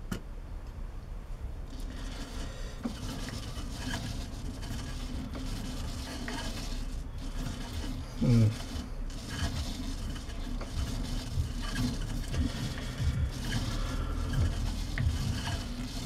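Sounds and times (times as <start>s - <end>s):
metal lathe running: 1.7s - 16.0s.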